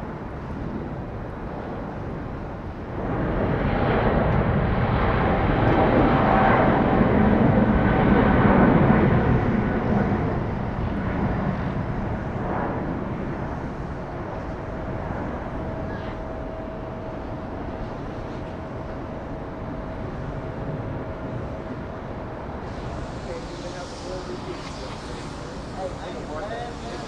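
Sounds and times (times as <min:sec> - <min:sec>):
jet engines roaring past: 0:00.0 - 0:27.0.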